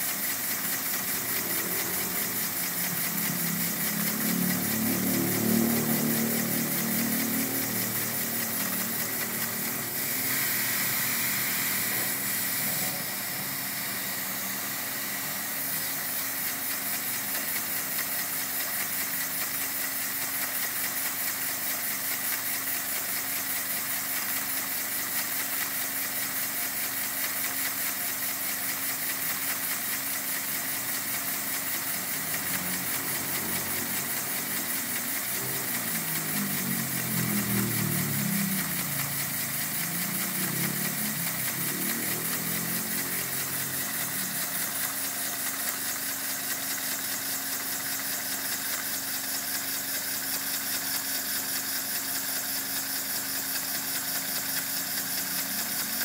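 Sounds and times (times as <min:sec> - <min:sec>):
air motor running: 0:00.0 - 0:56.0.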